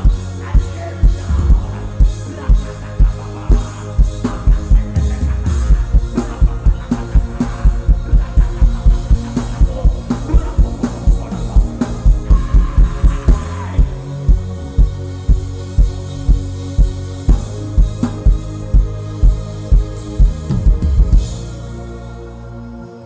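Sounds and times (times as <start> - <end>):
drum kit beat: 0.0 - 21.6
bass and guitar: 0.0 - 23.0.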